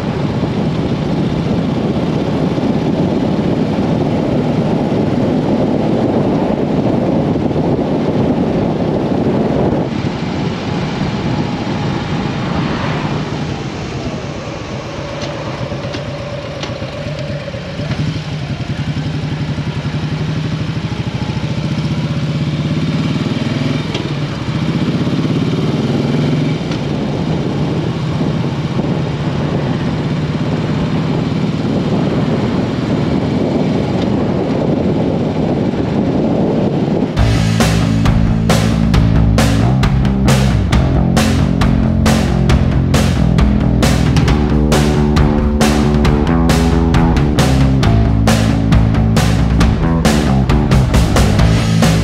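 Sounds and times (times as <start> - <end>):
motorcycle engine running: 0.0 - 12.5, 13.3 - 52.0
rushing wind noise: 0.0 - 22.3, 22.9 - 52.0.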